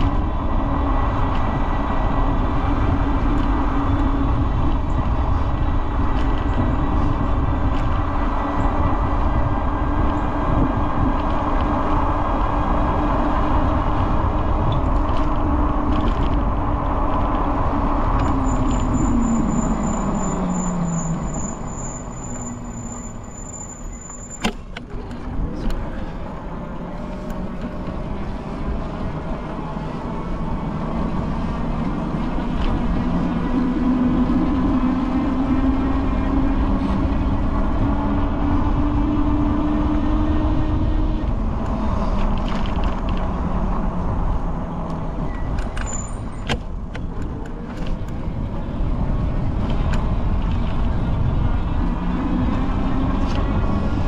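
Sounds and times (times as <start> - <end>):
motor vehicles passing: 0.0 - 54.0.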